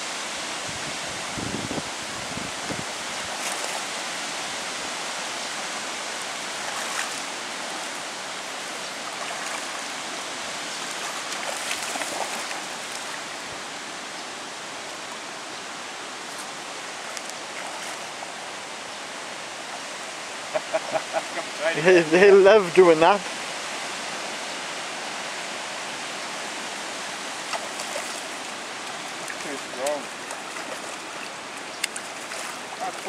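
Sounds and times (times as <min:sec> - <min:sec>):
river water over gravel: 0:00.0 - 0:33.0.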